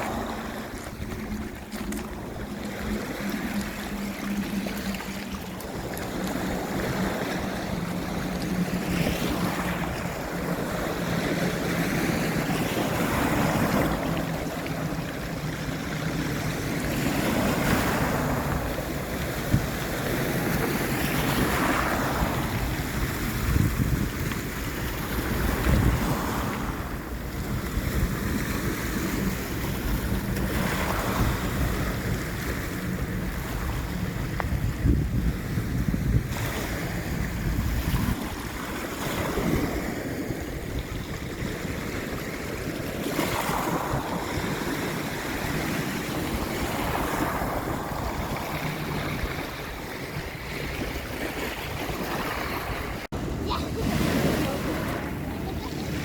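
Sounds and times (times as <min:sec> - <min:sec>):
sea waves washing onto shore: 0:00.0 - 0:56.0
wind on microphone: 0:00.0 - 0:56.0.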